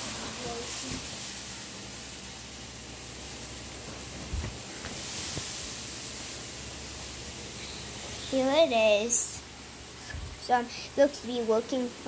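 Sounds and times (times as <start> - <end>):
blower fan running: 0.0 - 12.0.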